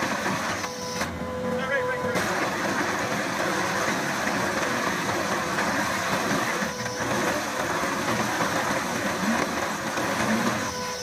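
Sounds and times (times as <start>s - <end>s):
cutter grinding into asphalt: 0.0s - 11.0s
loader engine running: 0.0s - 11.0s.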